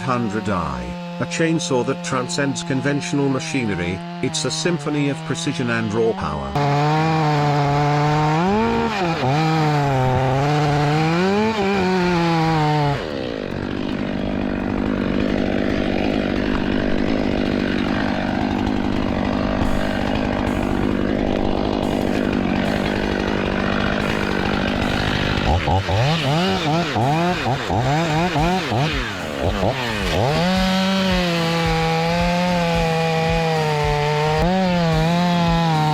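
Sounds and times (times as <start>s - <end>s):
chainsaw cutting wood: 0.0s - 35.9s
chainsaw revving: 0.0s - 35.9s.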